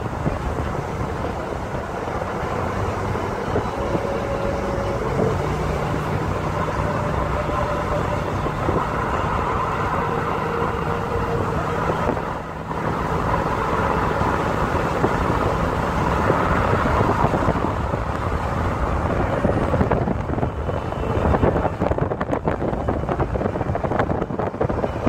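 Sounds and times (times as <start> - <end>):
road noise: 0.0 - 25.0
truck engine and tyres: 0.0 - 25.0
wind rush: 0.0 - 25.0.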